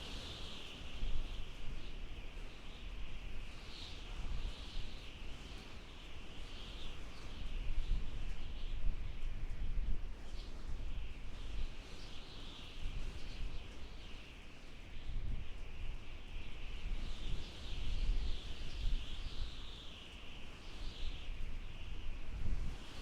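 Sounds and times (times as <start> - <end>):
howling wind: 0.0 - 23.0.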